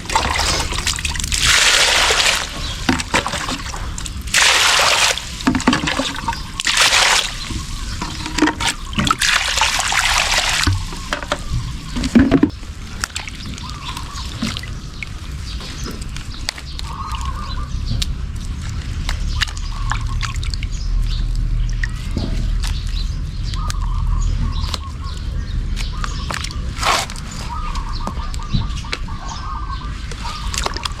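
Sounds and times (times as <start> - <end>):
birds calling: 0.0 - 31.0
water sloshing and dripping: 0.0 - 31.0.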